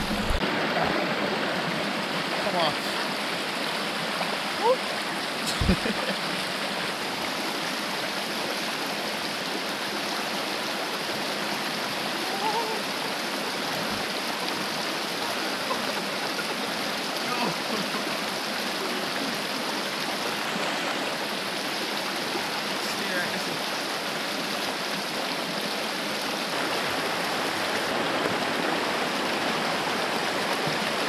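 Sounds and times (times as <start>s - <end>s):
river rushing over stones: 0.0s - 31.0s.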